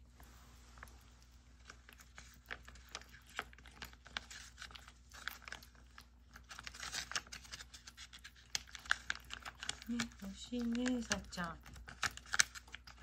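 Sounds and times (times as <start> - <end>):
cat chewing wet food: 0.0 - 13.0.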